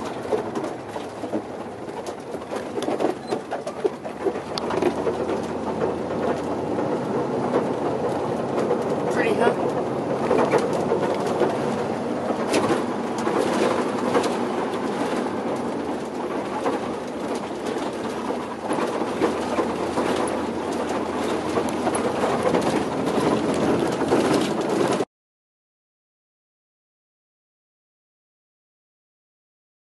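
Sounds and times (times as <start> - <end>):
vehicle engine and road drone: 0.0 - 25.1.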